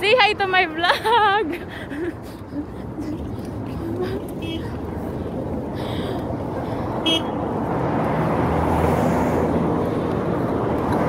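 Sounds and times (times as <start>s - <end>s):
street traffic rushing: 0.0s - 11.0s.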